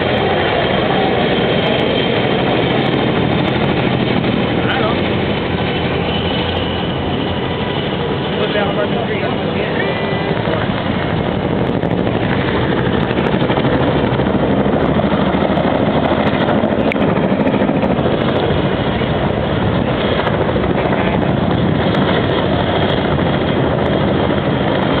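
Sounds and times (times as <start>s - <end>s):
helicopter rotors and engines: 0.0s - 25.0s.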